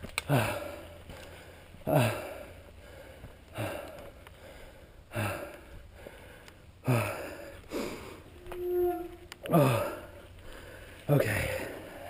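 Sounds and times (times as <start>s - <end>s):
man gasping breaths: 0.2s - 8.3s, 9.4s - 12.0s.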